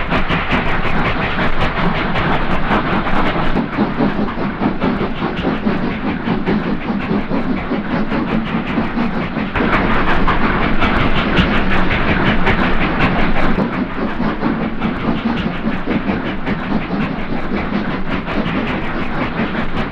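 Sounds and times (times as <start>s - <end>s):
steam locomotive exhaust beats: 0.0s - 19.9s.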